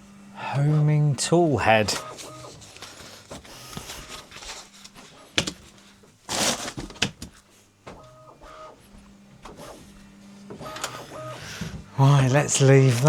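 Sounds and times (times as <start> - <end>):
stepper motors whining: 0.2 - 5.8, 7.9 - 13.0.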